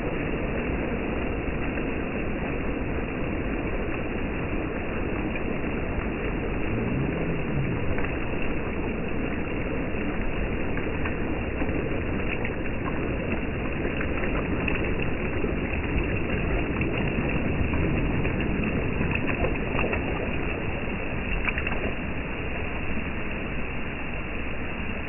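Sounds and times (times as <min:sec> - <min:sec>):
small waves washing over sand: 0:00.0 - 0:22.8
low rumble: 0:00.0 - 0:25.0.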